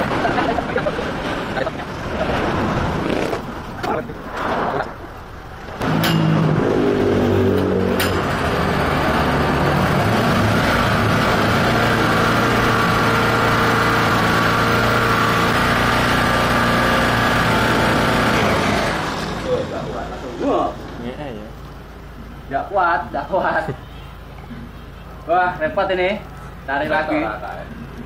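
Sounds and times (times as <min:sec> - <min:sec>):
generator engine running: 0:04.9 - 0:28.0.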